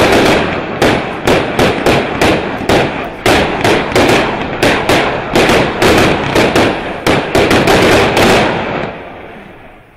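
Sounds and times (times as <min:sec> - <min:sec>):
firework barrage bangs: 0:00.0 - 0:09.9.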